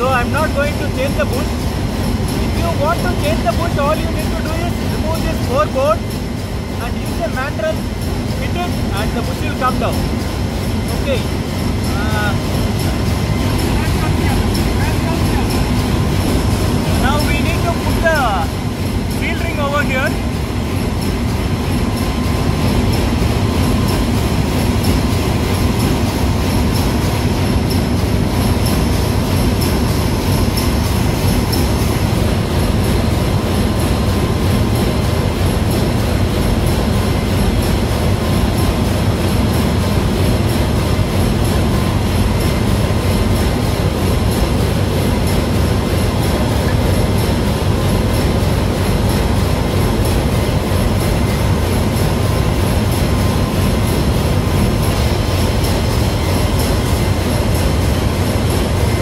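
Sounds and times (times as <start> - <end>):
engine-room machinery rumble: 0.0 - 59.0.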